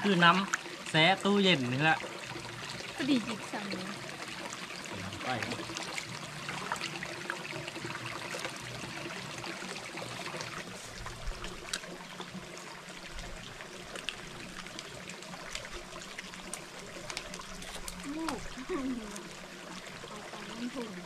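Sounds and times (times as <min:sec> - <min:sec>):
stream flowing and trickling: 0:00.0 - 0:21.0.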